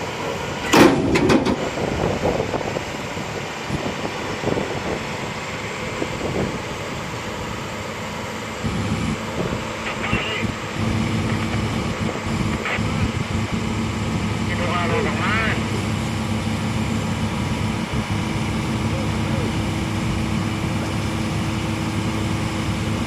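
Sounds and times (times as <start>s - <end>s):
excavator diesel engine hum: 0.0s - 23.0s.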